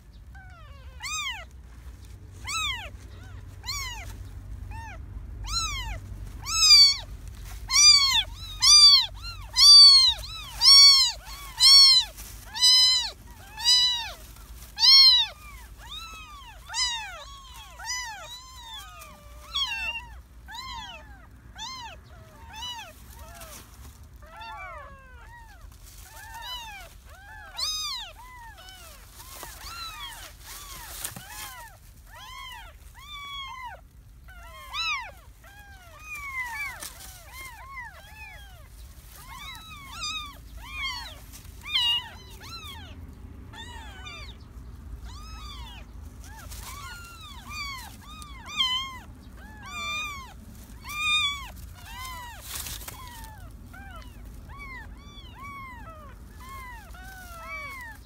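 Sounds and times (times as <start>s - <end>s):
kittens mewing: 0.0s - 58.0s.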